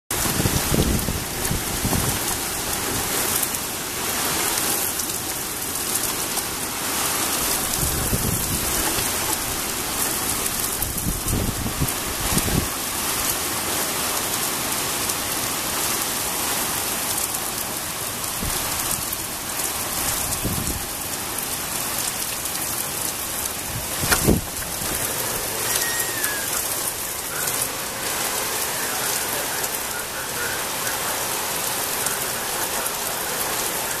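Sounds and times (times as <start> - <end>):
heavy rain hissing: 0.1 - 34.0.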